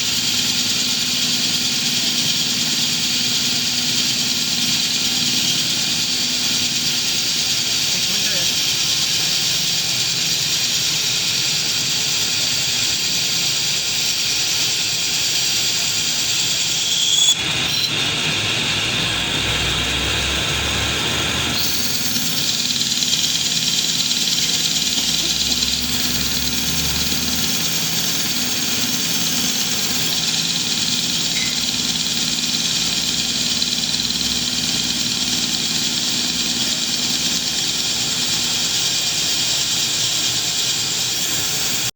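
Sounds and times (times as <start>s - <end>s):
metal lathe running: 0.0s - 41.9s.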